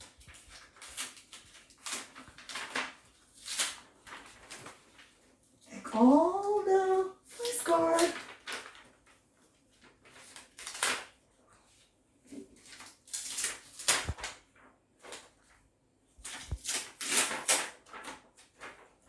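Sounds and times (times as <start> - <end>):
paper cards rustling: 0.0 - 5.4, 6.5 - 15.6, 16.2 - 19.0.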